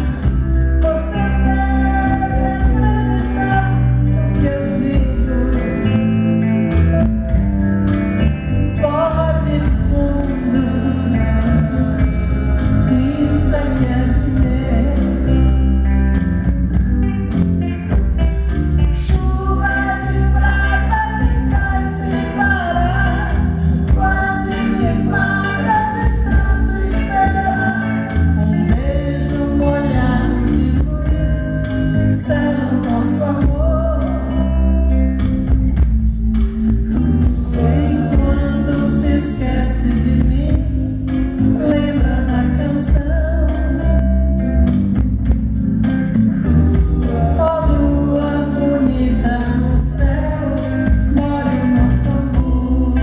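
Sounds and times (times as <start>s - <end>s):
woman singing into a microphone: 0.0s - 7.1s, 8.7s - 16.1s, 18.8s - 35.8s, 36.6s - 44.5s, 46.7s - 53.0s
band with electric bass: 0.0s - 53.0s.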